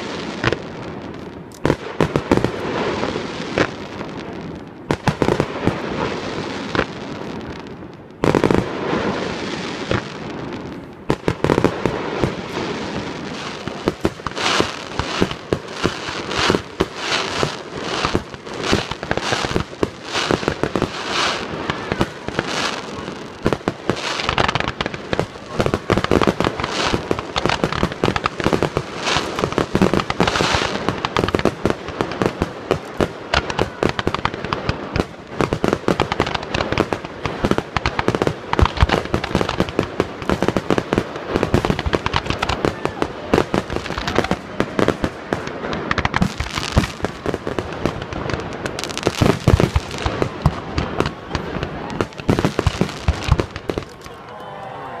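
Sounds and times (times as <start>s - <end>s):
fireworks bangs and crackles: 0.0s - 54.3s.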